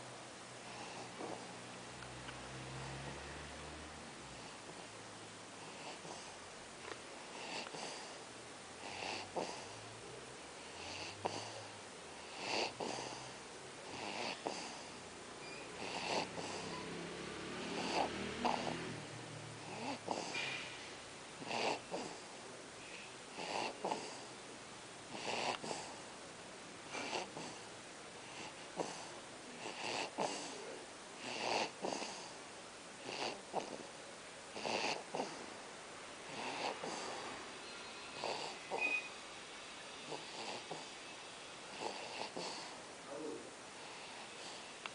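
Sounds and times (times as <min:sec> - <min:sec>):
baby snoring: 0:00.6 - 0:04.9, 0:05.6 - 0:06.5, 0:07.2 - 0:10.0, 0:10.6 - 0:22.5, 0:23.3 - 0:24.4, 0:25.1 - 0:26.1, 0:26.9 - 0:32.4, 0:33.0 - 0:35.6, 0:36.2 - 0:39.2, 0:39.9 - 0:44.8.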